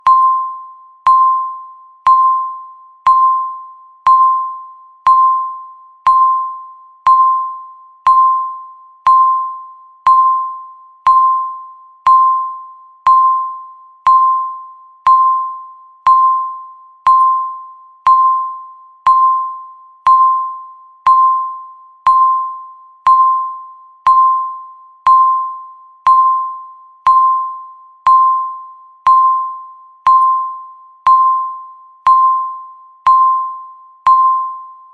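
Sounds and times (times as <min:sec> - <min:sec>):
countdown timer beeping: 0:00.0 - 0:34.9.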